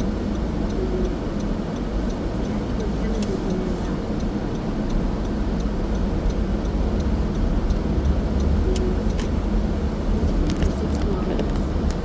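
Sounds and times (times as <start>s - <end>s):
car road and engine rumble: 0.0s - 12.0s
faint regular ticking: 0.0s - 12.0s.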